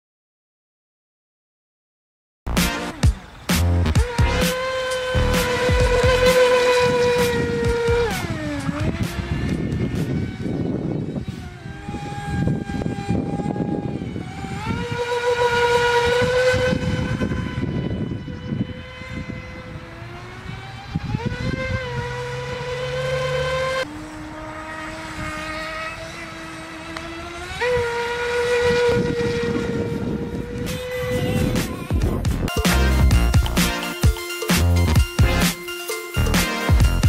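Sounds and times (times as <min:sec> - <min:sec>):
electric motor whining: 0:02.5 - 0:37.0.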